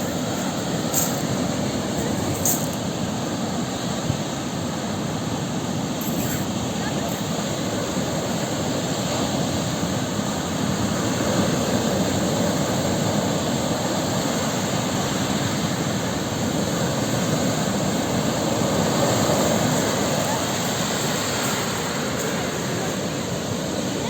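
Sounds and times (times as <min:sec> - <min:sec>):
sea waves surf rushing: 0:00.0 - 0:24.0.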